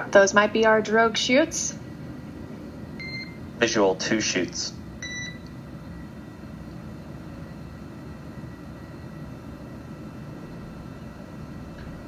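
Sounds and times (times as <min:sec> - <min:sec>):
faint steady hum tones: 0:00.0 - 0:12.0
radio low rumble and hiss: 0:00.0 - 0:12.0.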